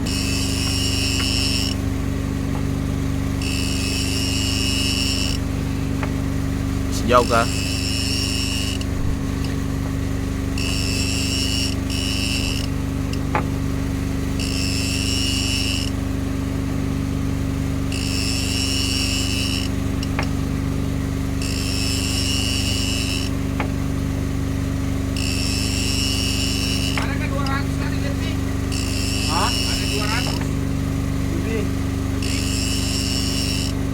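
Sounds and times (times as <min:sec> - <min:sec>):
boat engine running: 0:00.0 - 0:33.9
high buzzing tone: 0:00.0 - 0:33.9.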